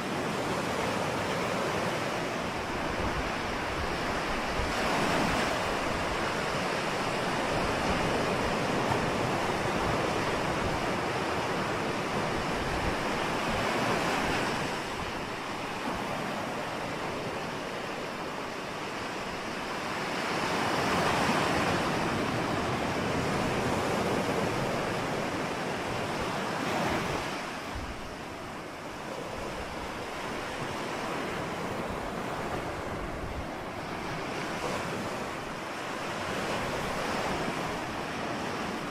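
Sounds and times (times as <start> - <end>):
ocean waves washing in: 0.0 - 38.9
wind on microphone: 0.0 - 38.9.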